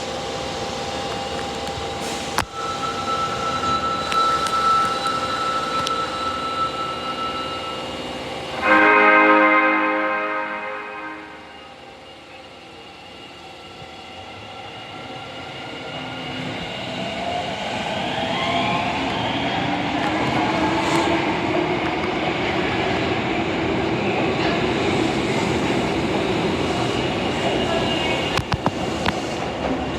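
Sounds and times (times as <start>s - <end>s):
subway train motors whining: 0.0s - 29.9s
train running noise: 0.0s - 29.9s.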